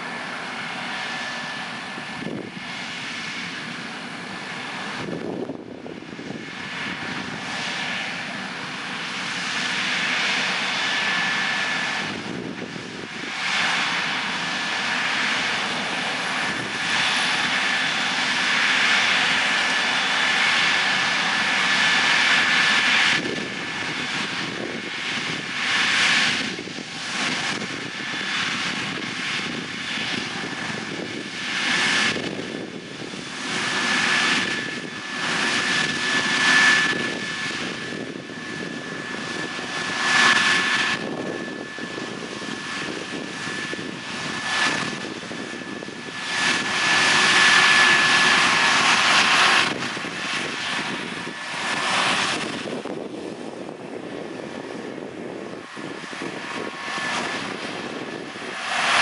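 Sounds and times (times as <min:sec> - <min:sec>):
combine harvester drone: 0:00.0 - 0:59.0
high machinery whine: 0:00.0 - 0:59.0.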